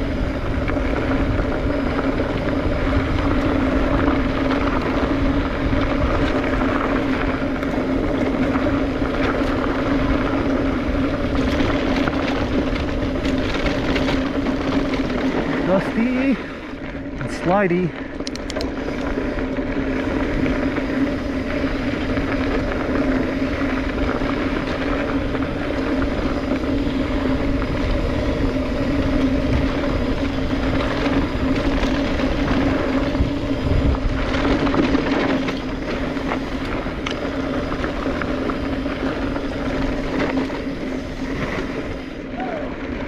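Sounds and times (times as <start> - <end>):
tyre and rattle noise: 0.0 - 43.0.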